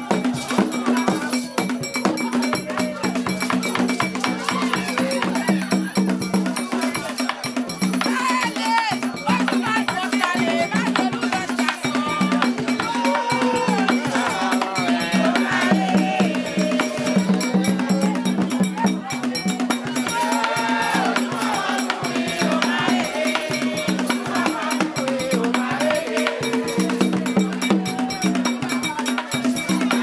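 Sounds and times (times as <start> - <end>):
people singing: 0.0 - 30.0
rattles and hand percussion: 0.0 - 30.0.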